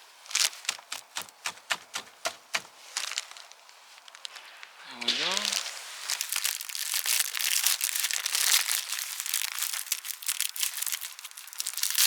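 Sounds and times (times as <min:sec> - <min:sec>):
packaging wrap crinkling: 0:00.2 - 0:12.0.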